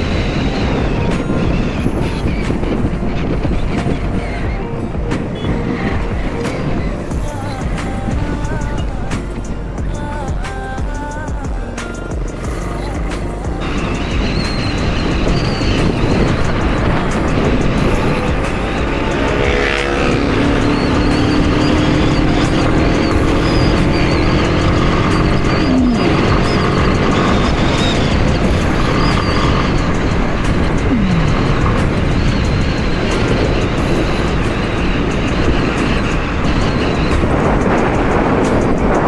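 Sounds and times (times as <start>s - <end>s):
motorcycle engine: 0.0s - 39.0s
wind rush on microphone: 0.0s - 39.0s.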